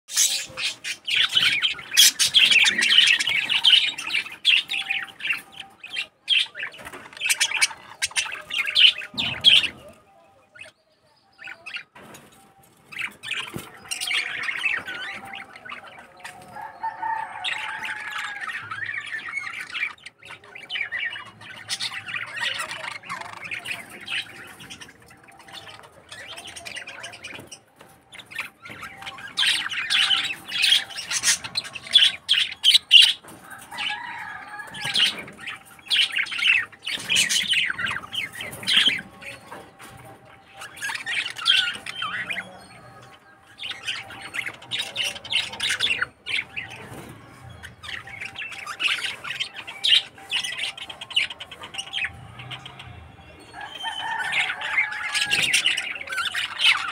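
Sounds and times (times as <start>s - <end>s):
budgerigars chattering: 0.1s - 10.8s, 11.4s - 56.9s.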